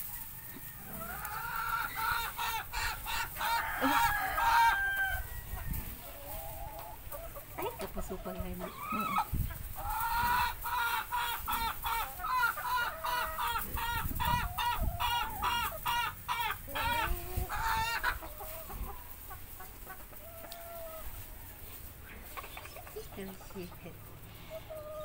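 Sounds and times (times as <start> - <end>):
hens clucking and cackling: 0.0 - 25.0.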